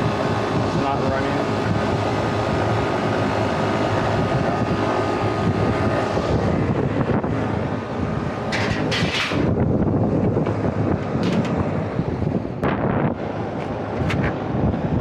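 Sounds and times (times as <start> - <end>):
air-conditioning equipment drone: 0.0 - 15.0
wind on microphone: 0.0 - 15.0.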